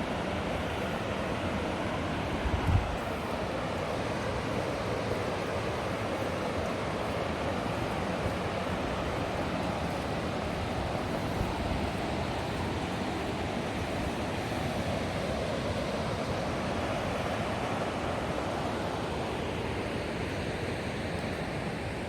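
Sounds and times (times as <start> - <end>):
river rushing over rapids: 0.0 - 22.0.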